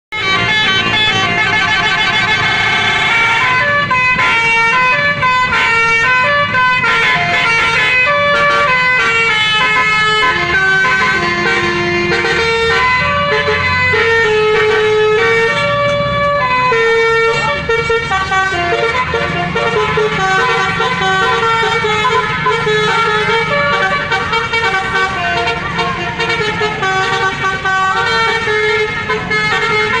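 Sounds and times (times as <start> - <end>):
bus engine running: 0.1 - 30.0
multi-tone bus horn tune: 0.1 - 30.0.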